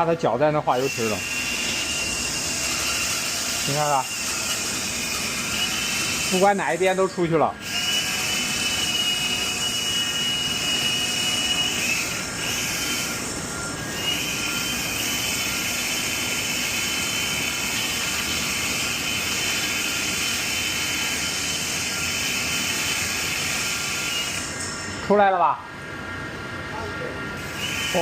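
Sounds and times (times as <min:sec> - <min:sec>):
drain-cleaning machine running: 0:00.7 - 0:25.3.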